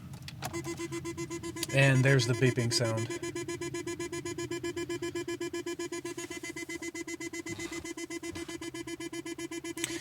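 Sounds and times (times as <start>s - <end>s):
car warning beeper: 0.5s - 10.0s.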